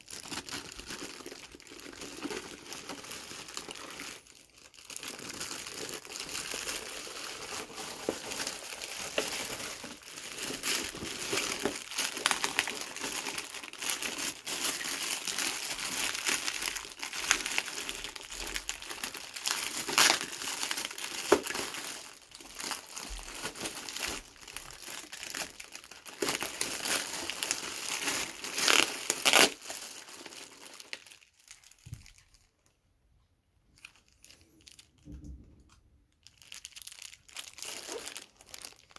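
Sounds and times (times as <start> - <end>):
packaging crinkling and rustling: 0.0 - 32.8, 33.7 - 35.2, 36.1 - 38.9.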